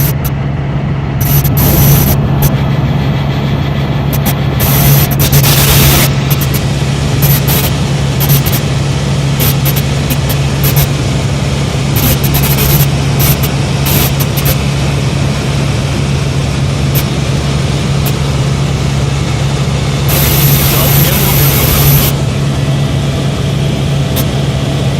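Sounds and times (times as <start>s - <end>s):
helicopter engine and rotors droning: 0.0s - 24.9s.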